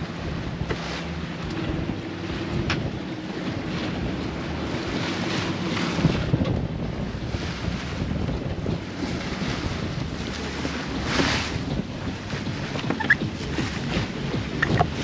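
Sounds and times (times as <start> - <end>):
water rushing past hull: 0.0 - 15.0
wind buffeting microphone: 0.0 - 15.0.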